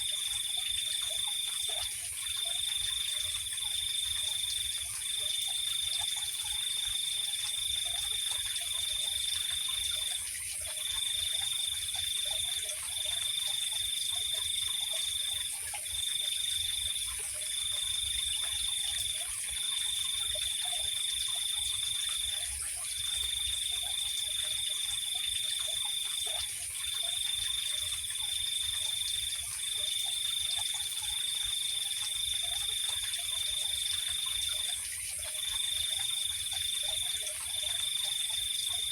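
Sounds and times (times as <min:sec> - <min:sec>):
faint lower insect calls: 0:00.0 - 0:38.9.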